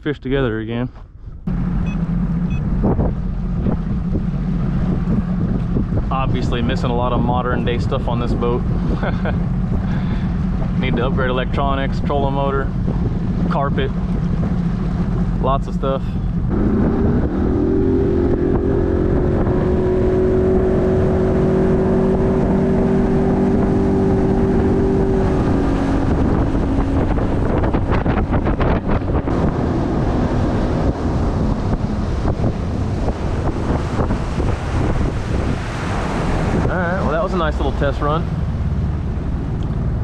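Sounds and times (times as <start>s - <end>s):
outboard motor throttling: 1.1s - 40.0s
wind buffeting microphone: 1.2s - 40.0s.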